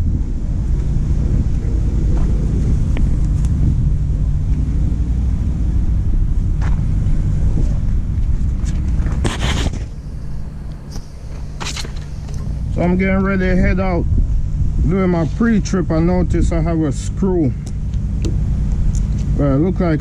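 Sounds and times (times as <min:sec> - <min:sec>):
low engine rumble: 0:00.0 - 0:20.0
wind buffeting microphone: 0:00.0 - 0:20.0.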